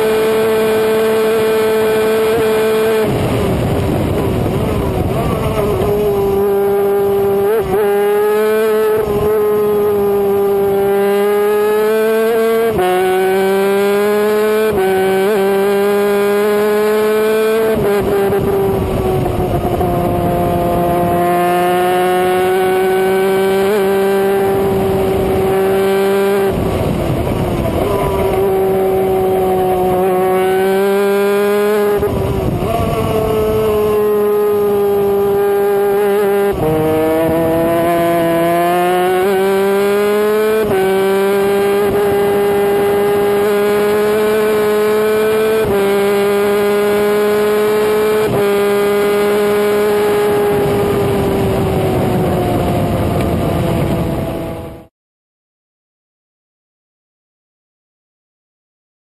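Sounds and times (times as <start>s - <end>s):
kart engine at racing speed: 0.0s - 54.9s
wind rush: 0.4s - 11.2s, 13.8s - 54.9s.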